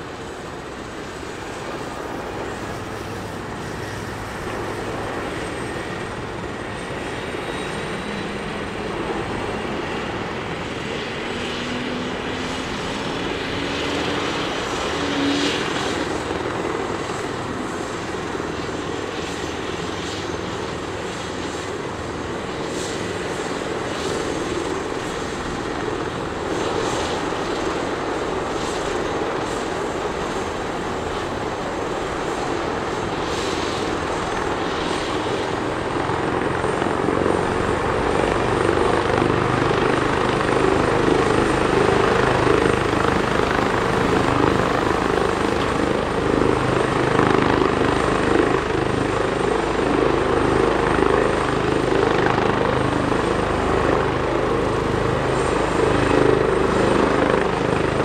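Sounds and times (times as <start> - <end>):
helicopter turbines and rotor: 0.0 - 58.0.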